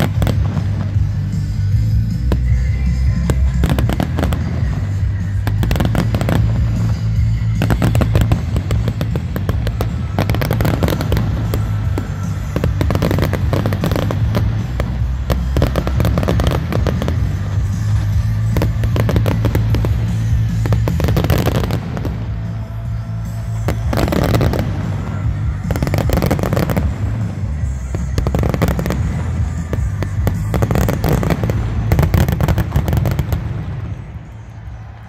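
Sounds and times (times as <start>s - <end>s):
fireworks bangs and crackling: 0.0s - 35.0s
music: 0.0s - 35.0s.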